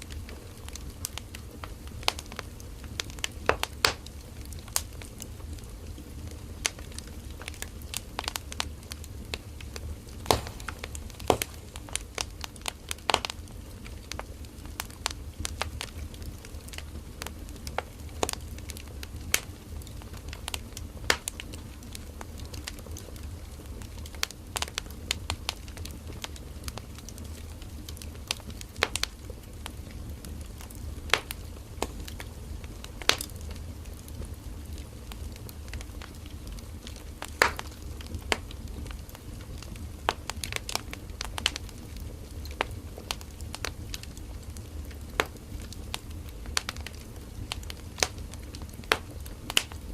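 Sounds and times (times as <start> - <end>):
firewood crackling and popping: 0.0 - 49.9
low rumble of fire: 0.0 - 49.9.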